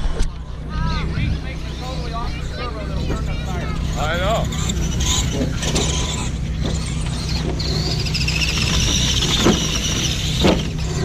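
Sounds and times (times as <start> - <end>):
steady low hum: 0.0 - 11.0
electric motors whining: 0.2 - 11.0.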